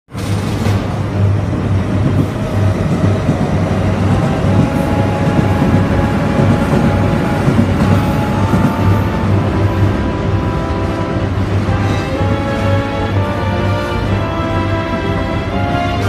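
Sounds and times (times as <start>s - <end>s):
electric trains rumbling: 0.1s - 16.0s.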